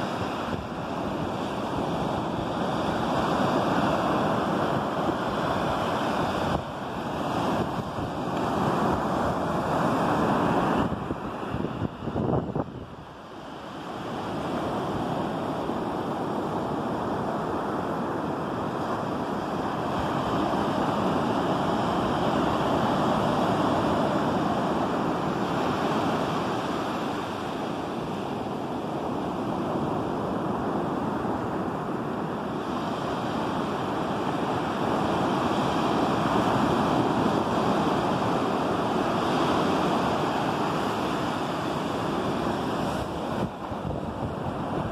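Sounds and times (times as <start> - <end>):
ocean surf breaking on beach: 0.0 - 44.9.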